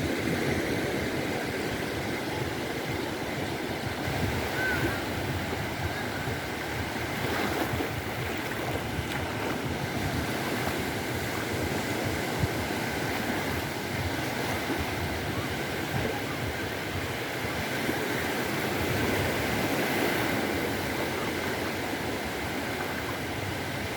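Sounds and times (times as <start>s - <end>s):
waves washing onto shore: 0.0s - 23.9s.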